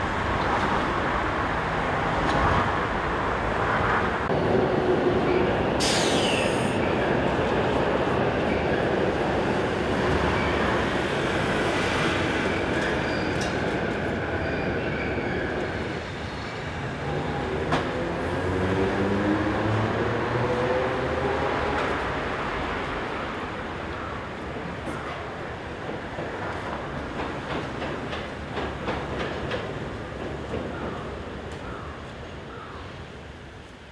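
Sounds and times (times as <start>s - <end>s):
rail traffic rumble: 0.0s - 33.9s.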